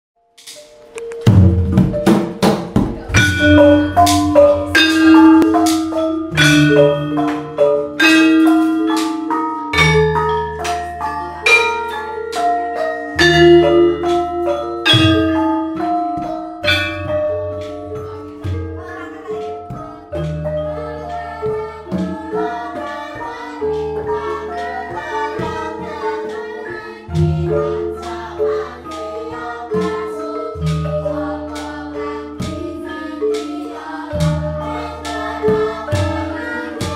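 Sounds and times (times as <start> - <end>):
gamelan ensemble playing: 0.4 - 36.9.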